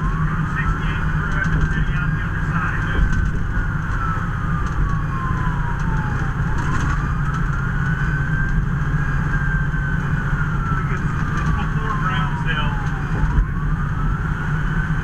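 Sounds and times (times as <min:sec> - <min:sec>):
fire truck siren wailing: 0:00.0 - 0:15.0
road noise: 0:00.0 - 0:15.0
truck engine drone: 0:00.0 - 0:15.0.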